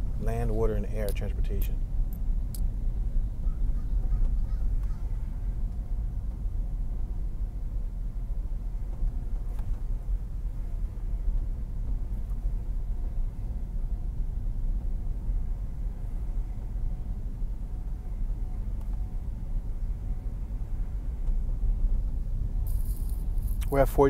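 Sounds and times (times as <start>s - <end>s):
car driving slowly: 0.0s - 24.0s.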